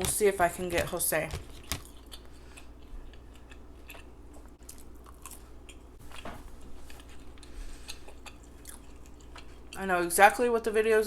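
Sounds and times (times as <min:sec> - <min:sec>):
person chewing with mouth open: 0:00.8 - 0:09.8.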